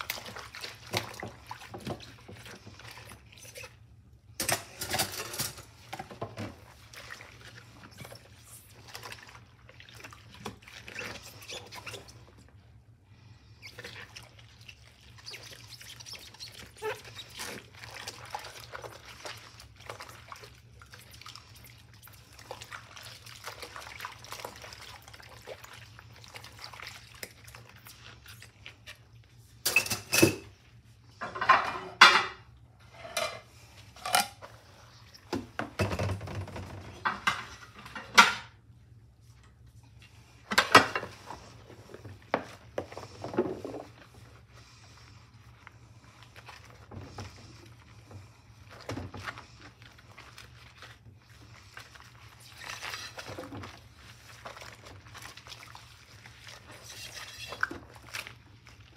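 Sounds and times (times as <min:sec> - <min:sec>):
water splashing in sink: 0:00.0 - 0:12.6, 0:13.5 - 0:30.6, 0:40.5 - 0:58.9.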